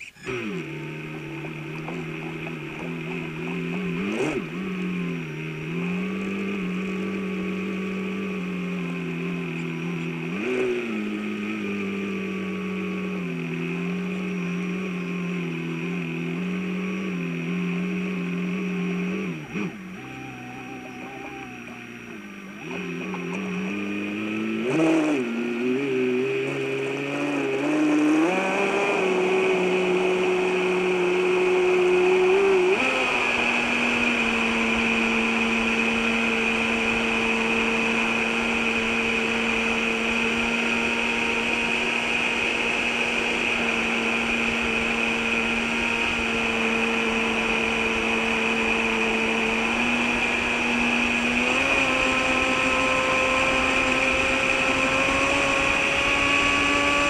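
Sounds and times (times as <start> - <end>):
electric motor whine: 0.0 - 57.0.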